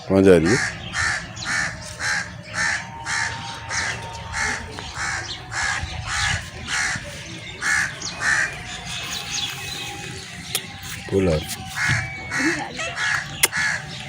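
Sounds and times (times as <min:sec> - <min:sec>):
crow cawing: 0:00.4 - 0:10.4, 0:11.7 - 0:14.0.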